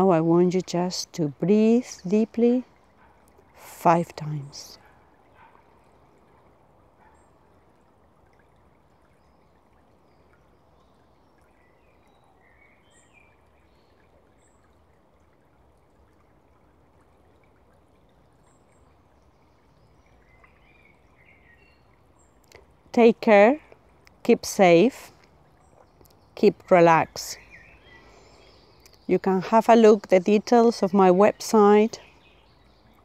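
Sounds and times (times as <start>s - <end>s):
stream running over stones: 0.0s - 33.0s.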